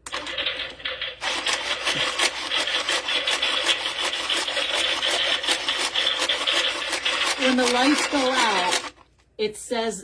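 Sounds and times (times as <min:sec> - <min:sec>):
typewriter prop clattering: 0:00.1 - 0:09.0.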